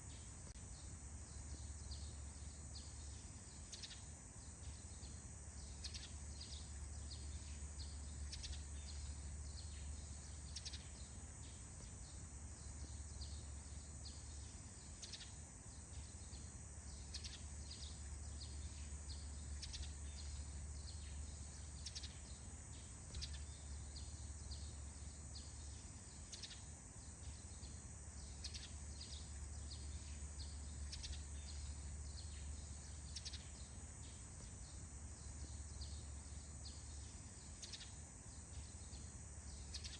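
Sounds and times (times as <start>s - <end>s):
bird chirps: 0.0s - 39.9s
high insect drone: 0.0s - 39.9s
low steady hum: 0.0s - 39.9s.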